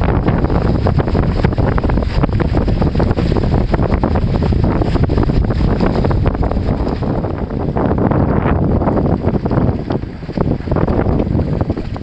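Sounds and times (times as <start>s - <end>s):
water rushing and splashing: 0.0s - 12.0s
wind buffeting microphone: 0.0s - 12.0s.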